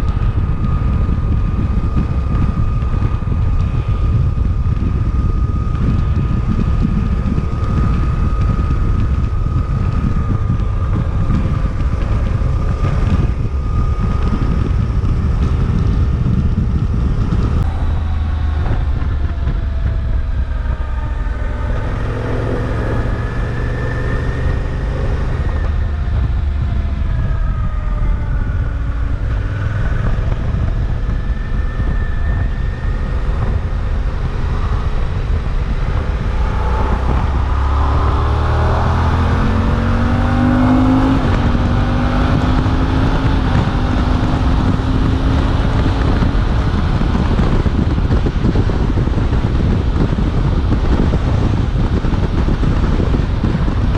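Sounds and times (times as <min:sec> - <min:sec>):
motorcycle engine running: 0:00.0 - 0:53.9
wind rush on microphone: 0:00.0 - 0:53.9.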